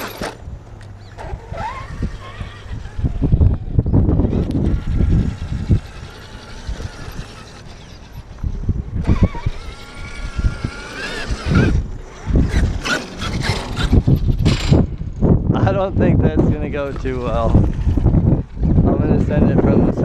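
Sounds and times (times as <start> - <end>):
electric motor whining: 0.0 - 15.3, 16.5 - 19.7.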